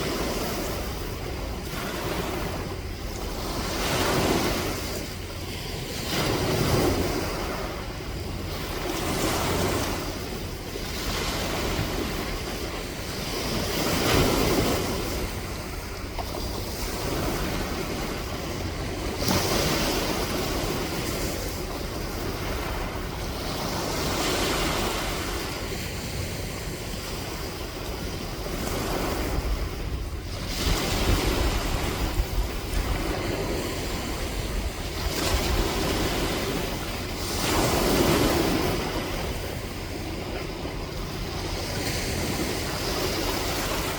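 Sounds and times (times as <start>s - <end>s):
sea waves washing ashore: 0.0s - 43.9s
wind rumble on microphone: 0.0s - 43.9s.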